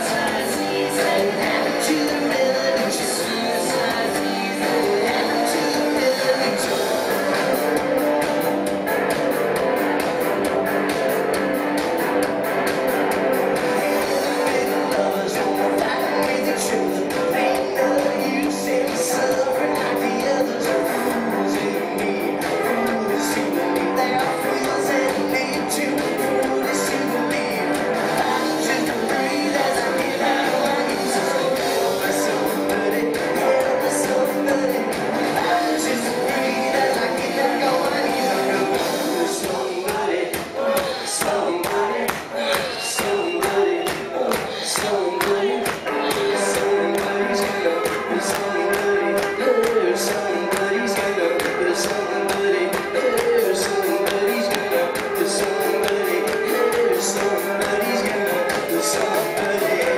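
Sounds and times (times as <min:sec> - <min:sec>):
electric guitar: 0:00.0 - 0:59.9
live rock band: 0:00.0 - 0:59.9
drum beat: 0:03.9 - 0:59.9.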